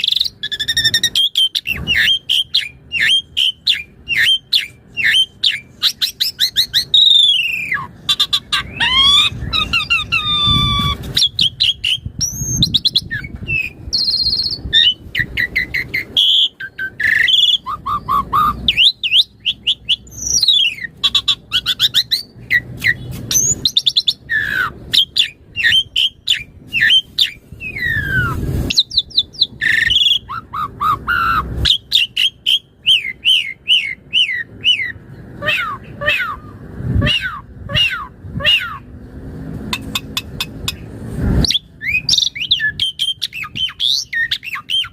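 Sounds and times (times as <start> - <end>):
starling singing: 0.0 - 39.1, 39.7 - 44.9.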